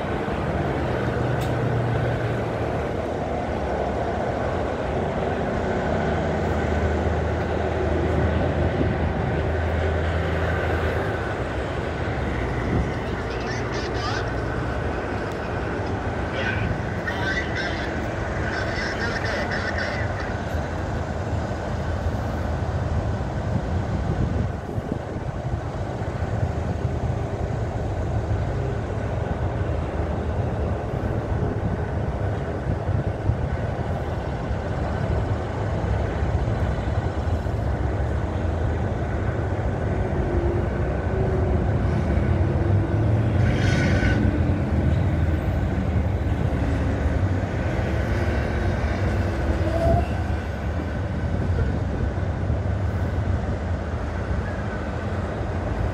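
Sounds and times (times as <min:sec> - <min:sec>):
highway traffic rumble: 0:00.0 - 0:55.9.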